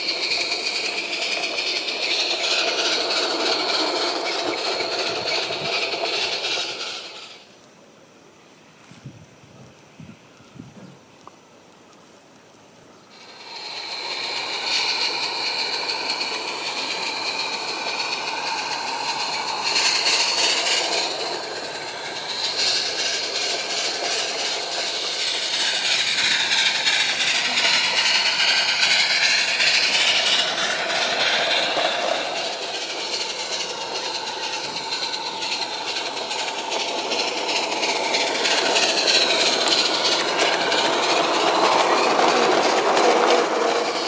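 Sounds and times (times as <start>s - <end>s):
model steam locomotive running: 0.0s - 8.5s, 11.8s - 44.0s.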